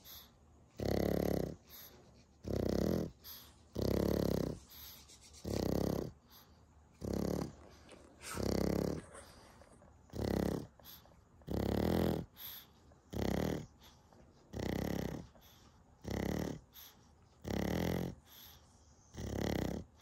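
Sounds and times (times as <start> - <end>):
dog snoring: 0.0 - 20.0.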